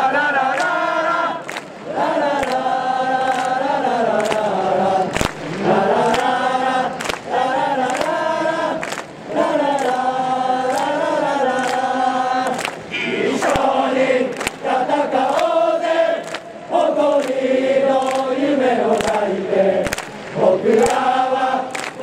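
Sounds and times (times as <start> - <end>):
stadium crowd singing: 0.0 - 22.0.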